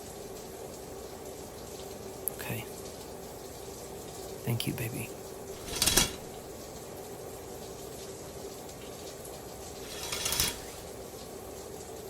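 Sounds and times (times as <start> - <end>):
shower running: 0.0 - 12.0.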